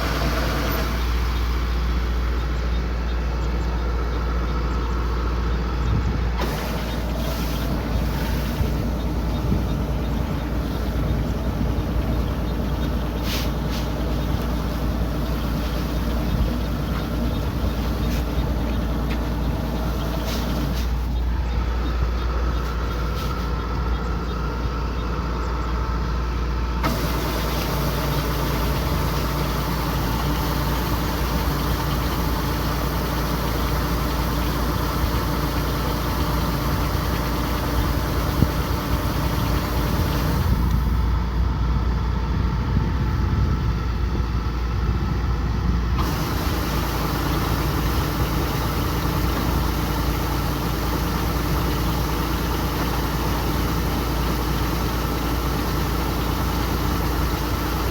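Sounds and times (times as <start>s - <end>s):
combine harvester diesel drone: 0.0s - 57.9s.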